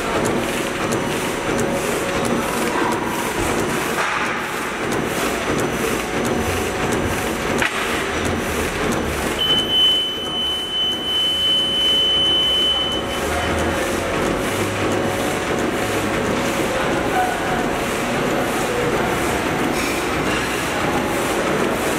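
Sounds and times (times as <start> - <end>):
bag-making machine clattering: 0.0 - 21.9.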